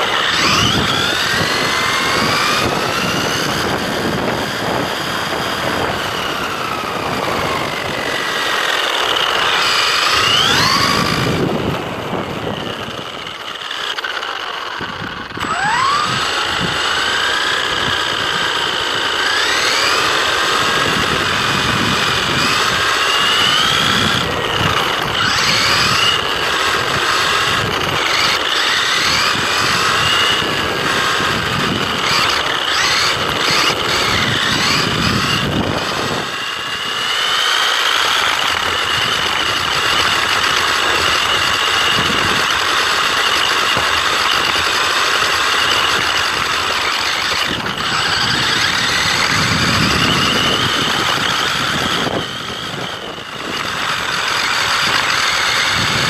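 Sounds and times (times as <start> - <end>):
rc car motor whine: 0.0 - 56.0
tyres rumbling on pavement: 0.0 - 56.0.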